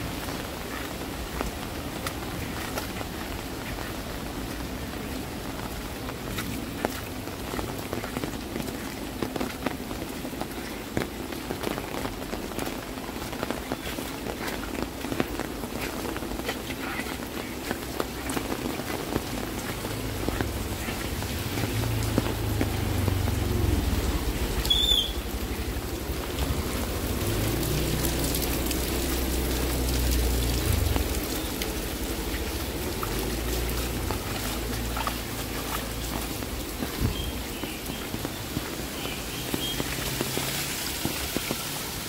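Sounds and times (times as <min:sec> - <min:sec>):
rain on wet pavement: 0:00.0 - 0:42.0.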